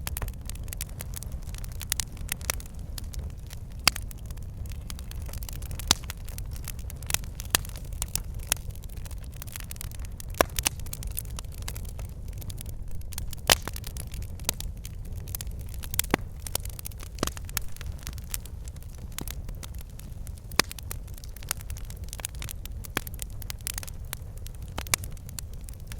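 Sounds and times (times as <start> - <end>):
logs crackling and popping: 0.0 - 25.9
low rumble of flame: 0.0 - 25.9.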